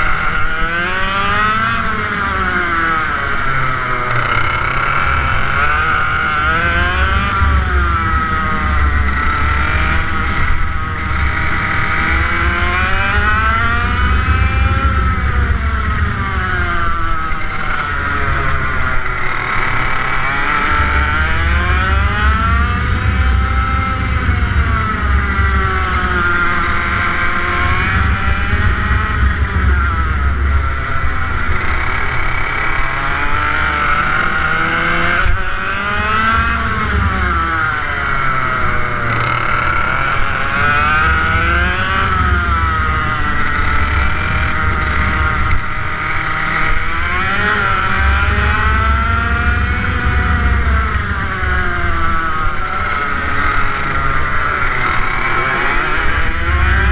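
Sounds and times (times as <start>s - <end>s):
kart engine revving: 0.0s - 56.9s.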